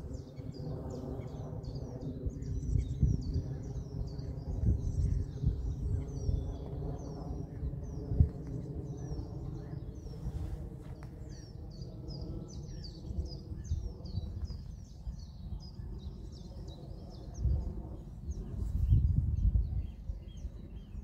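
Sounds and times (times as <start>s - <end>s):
distant jet engine rumble: 0.0s - 21.0s.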